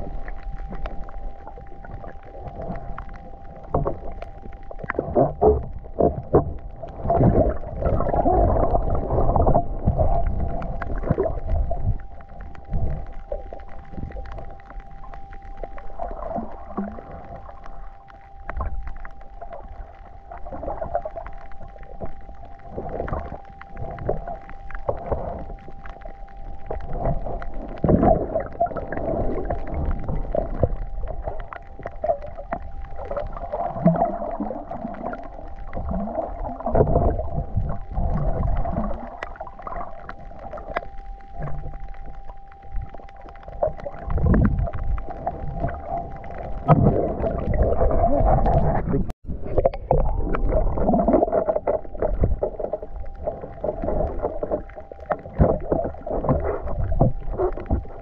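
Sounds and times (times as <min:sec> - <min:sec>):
faint steady whine: 0:00.0 - 0:58.0
water sloshing and gurgling: 0:00.0 - 0:58.0.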